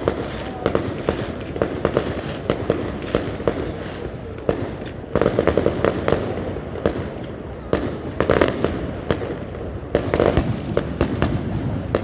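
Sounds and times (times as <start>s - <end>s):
continuous rumble: 0.0s - 12.0s
fireworks bangs and pops: 0.0s - 12.0s.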